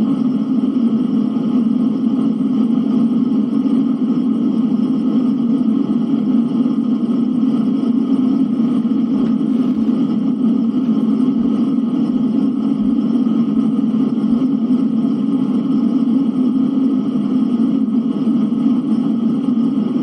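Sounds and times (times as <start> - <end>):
snowstorm wind rumble: 0.0 - 20.0.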